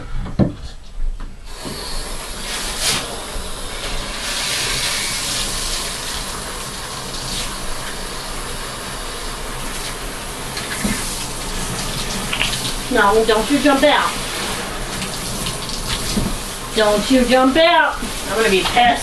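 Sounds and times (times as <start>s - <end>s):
water spraying from shower hose: 1.5s - 19.0s.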